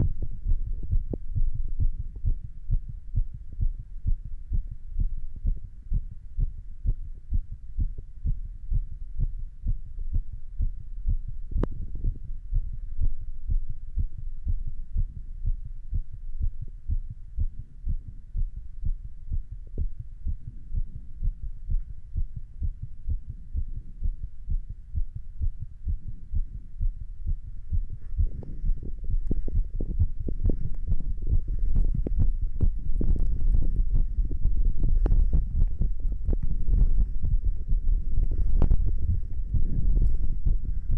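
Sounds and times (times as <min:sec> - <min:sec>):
faint scratchy noise: 0:00.0 - 0:40.9
heartbeat: 0:00.0 - 0:40.9.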